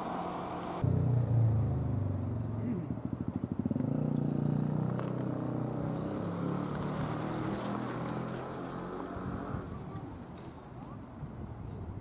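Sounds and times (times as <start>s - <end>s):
vehicle engine droning: 0.0s - 9.9s.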